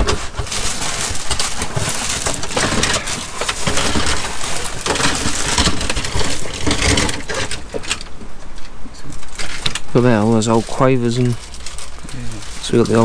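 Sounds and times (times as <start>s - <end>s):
plastic toys clattering in a box: 0.0s - 8.1s, 9.1s - 13.0s.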